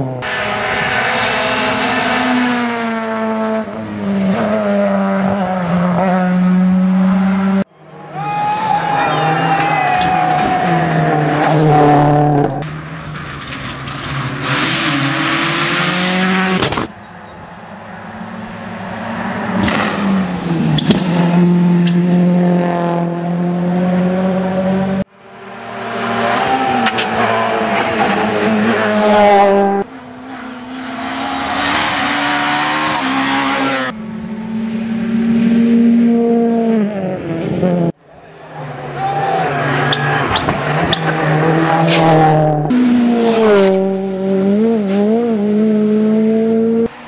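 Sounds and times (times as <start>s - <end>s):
rally cars passing at speed: 0.0s - 47.0s.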